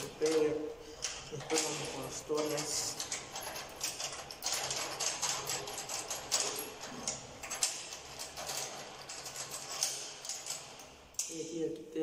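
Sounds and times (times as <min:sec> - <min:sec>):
metallic clicks and rattles: 0:00.0 - 0:11.7.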